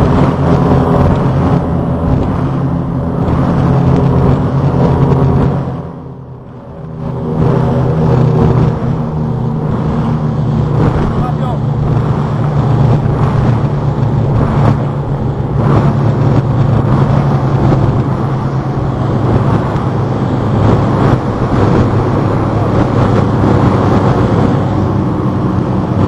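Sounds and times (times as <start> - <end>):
boat engine drone: 0.0 - 26.0
water rushing: 0.0 - 26.0.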